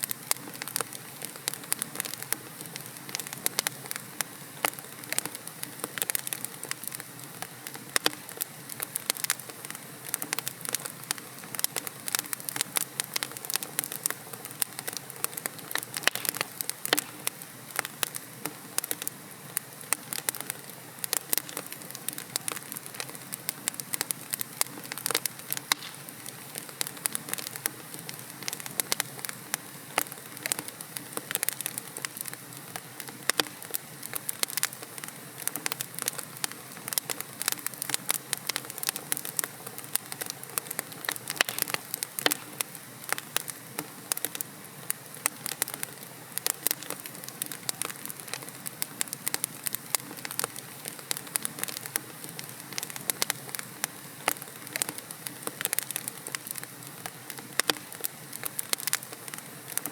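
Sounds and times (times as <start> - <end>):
logs crackling in fireplace: 0.0 - 59.9.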